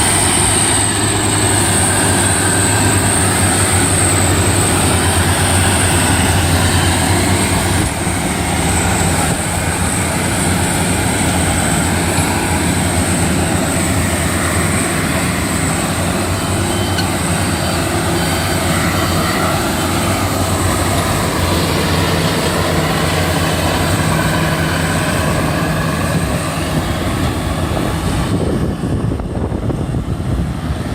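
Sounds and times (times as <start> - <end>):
combine harvester engine humming: 0.0 - 30.9
high steady whine: 0.0 - 30.9.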